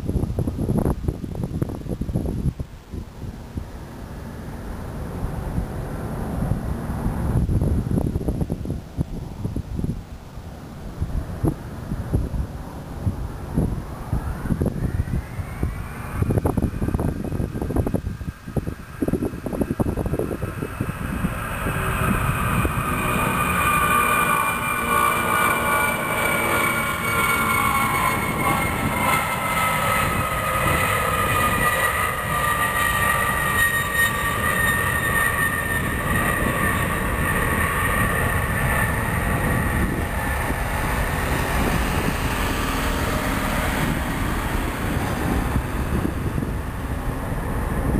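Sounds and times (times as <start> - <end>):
jet engines roaring with high whine: 0.0 - 47.9.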